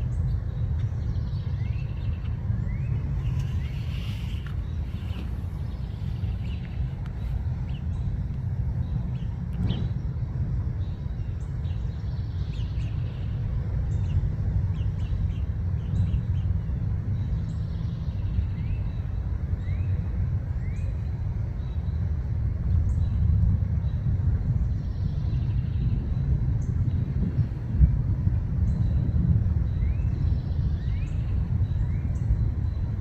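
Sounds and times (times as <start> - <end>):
songbirds chirping: 0.0 - 33.0
steady low rumble: 0.0 - 33.0.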